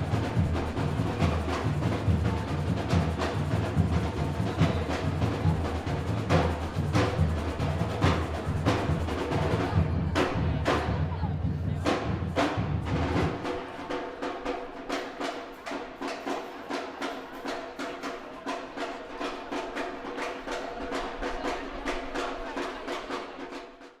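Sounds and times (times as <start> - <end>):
drums in fast rhythm: 0.0 - 24.0.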